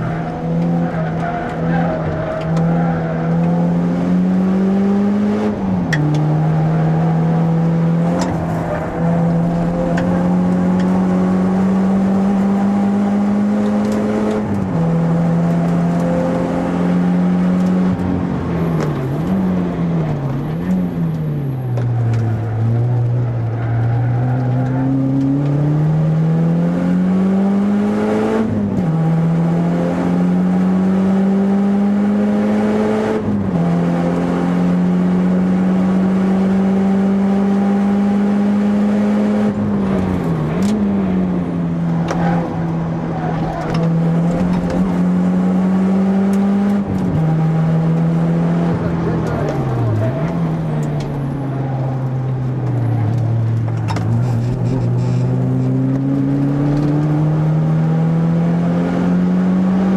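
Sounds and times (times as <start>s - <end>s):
car engine revving hard: 0.0s - 21.2s, 24.4s - 59.9s.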